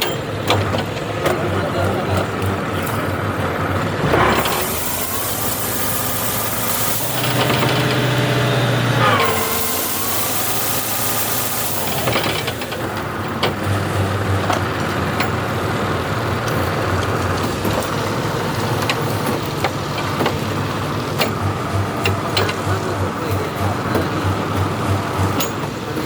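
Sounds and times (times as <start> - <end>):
sharp clicks and knocks: 0.0 - 26.0
tractor engine running: 0.0 - 26.0.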